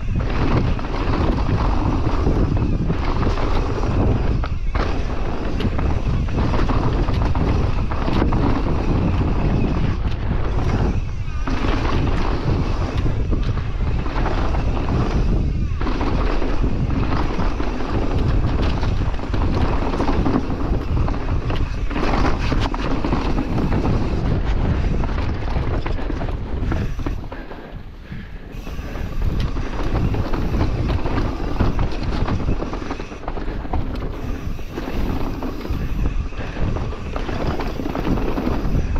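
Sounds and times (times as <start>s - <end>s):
bike rattling: 0.0s - 38.9s
bike tyres rolling over dirt: 0.0s - 38.9s
wind rushing over microphone: 0.0s - 38.9s.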